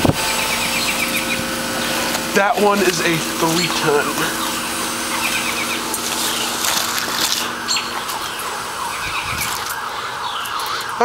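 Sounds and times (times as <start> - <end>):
distant sirens wailing: 0.0 - 11.0
heat pump humming: 0.0 - 11.0.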